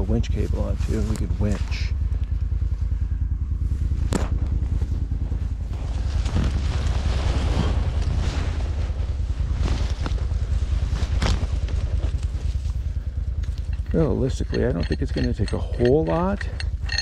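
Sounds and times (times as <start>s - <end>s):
engine idling: 0.0s - 6.8s, 9.1s - 17.0s.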